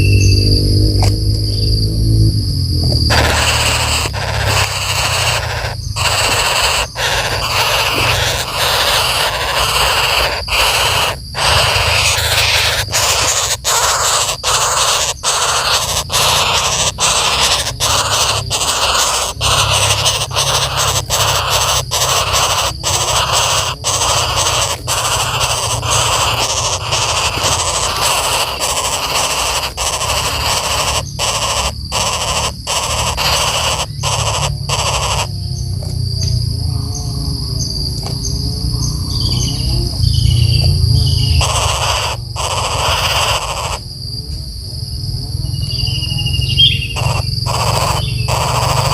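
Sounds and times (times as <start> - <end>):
woodpeckers squawking: 2.8 - 44.0, 45.3 - 48.9.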